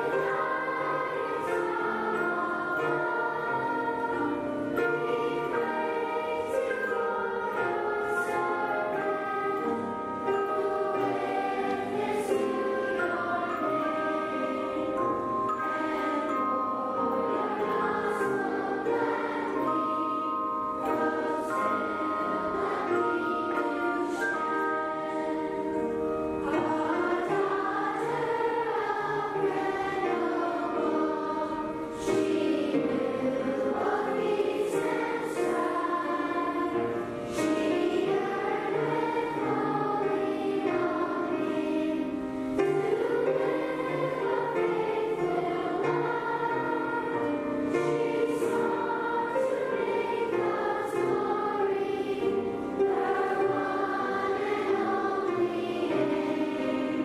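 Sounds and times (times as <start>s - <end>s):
choir singing slow piece: 0.0s - 57.0s.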